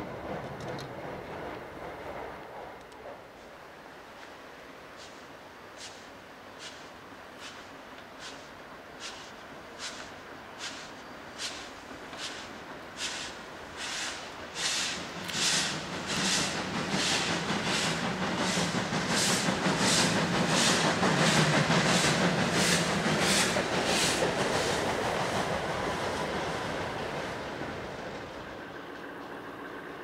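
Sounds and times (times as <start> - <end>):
steam locomotive chuffing: 5.0 - 30.0.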